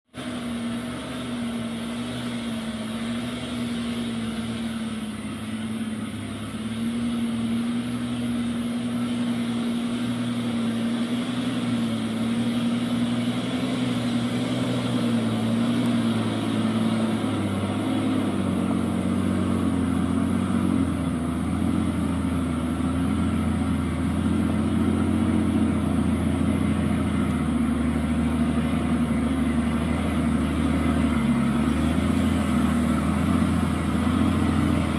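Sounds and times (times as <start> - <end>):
heavy truck engine running: 0.0 - 34.9.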